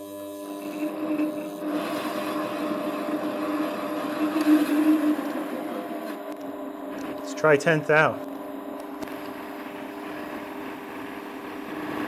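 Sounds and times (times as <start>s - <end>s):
lathe motor humming whine: 0.0s - 12.0s.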